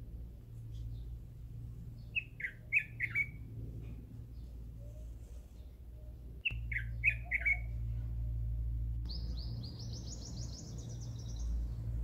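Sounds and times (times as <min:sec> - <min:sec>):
steady low hum: 0:00.0 - 0:12.0
birds chirping: 0:01.9 - 0:12.0.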